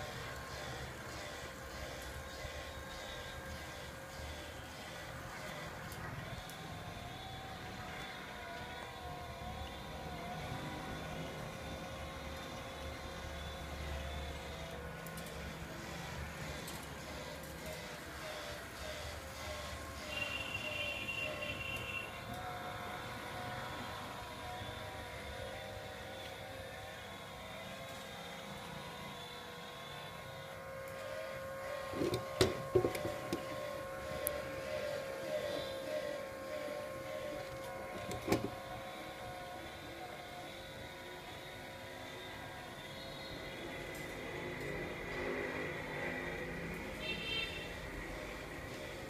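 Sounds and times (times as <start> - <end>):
faint wavering whine: 0.0 - 49.0
small electric motors humming: 0.0 - 49.0.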